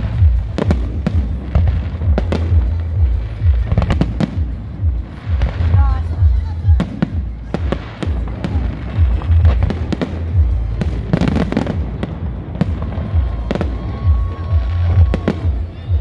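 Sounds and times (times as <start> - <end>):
fireworks bursting bangs: 0.0 - 16.0
low rumble: 0.0 - 16.0.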